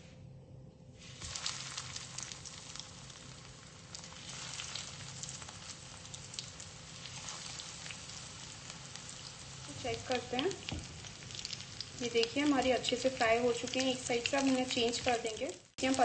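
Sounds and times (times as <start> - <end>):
patties sizzling in hot oil: 1.0 - 16.0.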